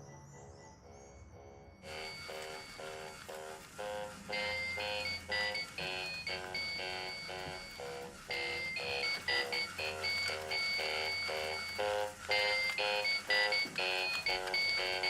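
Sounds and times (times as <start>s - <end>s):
alarm clock beeping melody: 0.2s - 15.0s.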